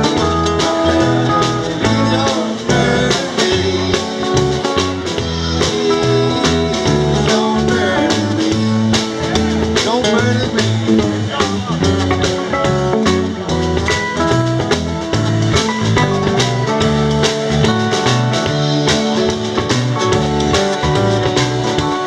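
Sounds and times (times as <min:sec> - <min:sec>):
acoustic guitar: 0:00.0 - 0:22.0
drum kit beat: 0:00.0 - 0:22.0
electric guitars: 0:00.0 - 0:22.0.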